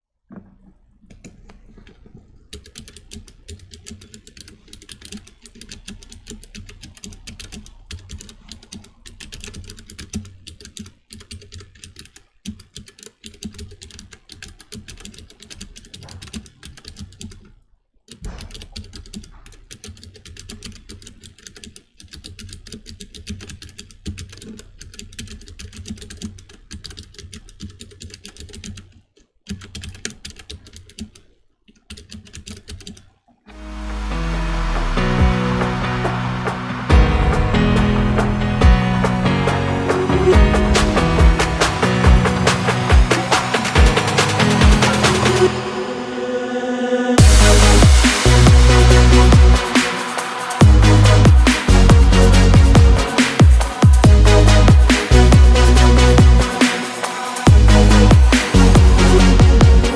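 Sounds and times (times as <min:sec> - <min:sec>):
rapid keyboard typing: 0:01.5 - 0:33.2, 0:33.8 - 0:46.1, 0:47.2 - 0:59.9.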